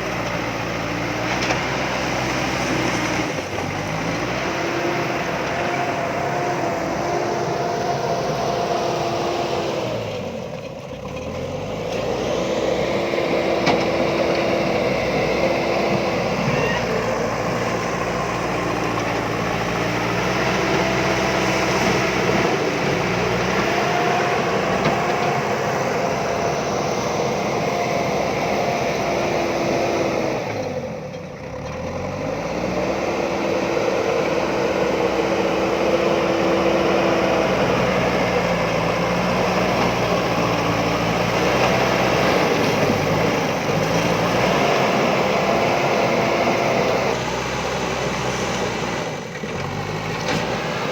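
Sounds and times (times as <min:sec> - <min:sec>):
backhoe engine running: 0:00.0 - 0:50.9.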